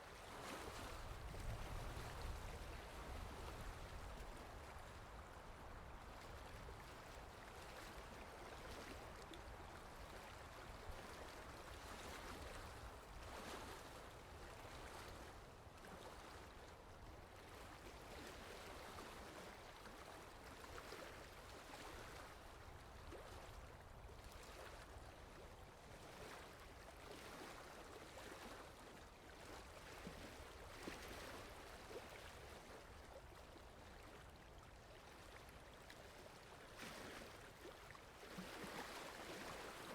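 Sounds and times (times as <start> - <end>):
lake water lapping: 0.2 - 39.9.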